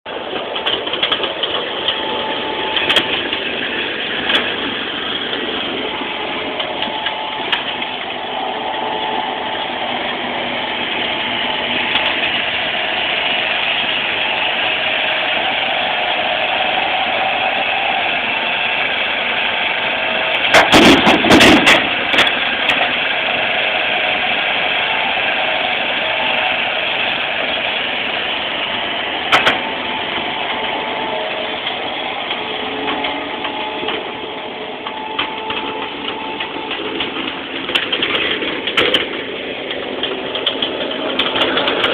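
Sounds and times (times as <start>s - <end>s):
diesel engine running: 0.0s - 41.9s
loud clatter: 0.0s - 41.9s.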